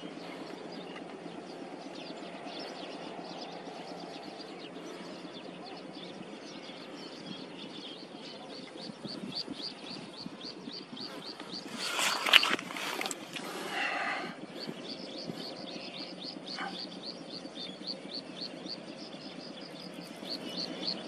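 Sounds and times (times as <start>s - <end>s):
low background noise: 0.0s - 21.0s
small bird chirping: 0.0s - 21.0s.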